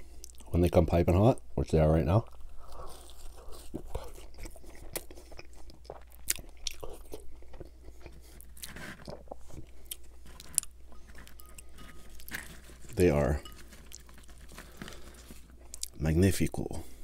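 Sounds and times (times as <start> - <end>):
chewing fries: 2.2 - 16.0
soft crunches: 2.3 - 16.0.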